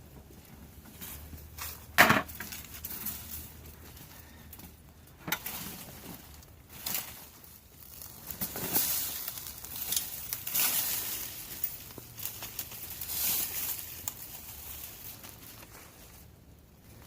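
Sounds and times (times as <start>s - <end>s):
rustling and crunching: 0.0s - 17.0s.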